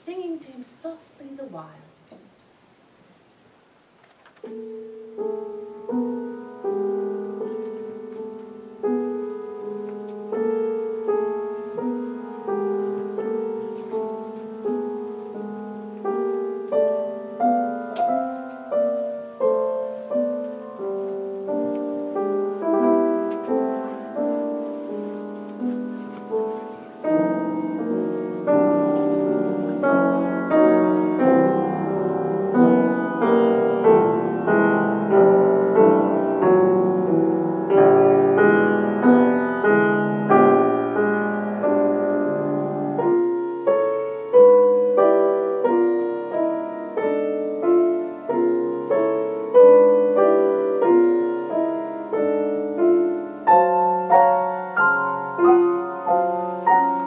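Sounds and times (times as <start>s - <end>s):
piano lullaby chords: 4.4s - 57.0s.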